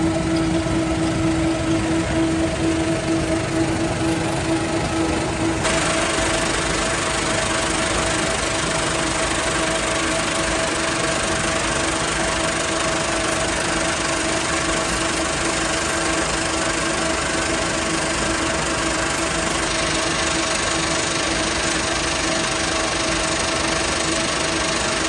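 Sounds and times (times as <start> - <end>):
plant machinery running: 0.0 - 25.0.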